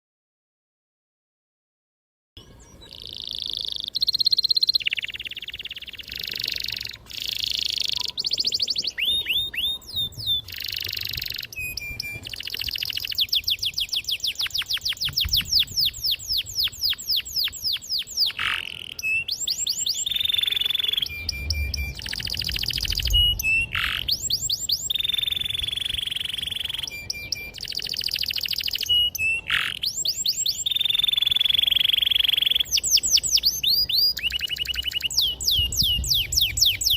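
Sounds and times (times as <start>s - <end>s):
canary singing trills: 2.4s - 36.9s.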